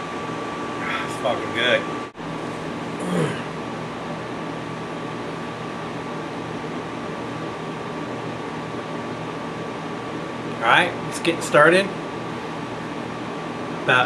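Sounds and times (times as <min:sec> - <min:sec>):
air equipment hum and hiss: 0:00.0 - 0:14.0.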